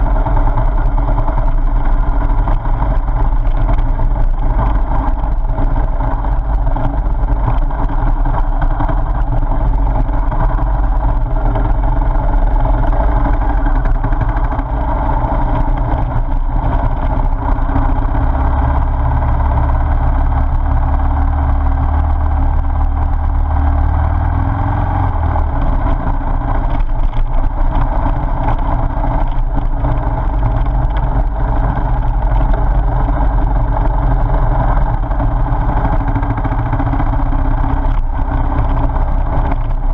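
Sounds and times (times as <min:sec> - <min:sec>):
motorcycle engine running: 0:00.0 - 0:39.9
tyres rumbling on gravel: 0:00.0 - 0:39.9
wind noise: 0:00.0 - 0:39.9.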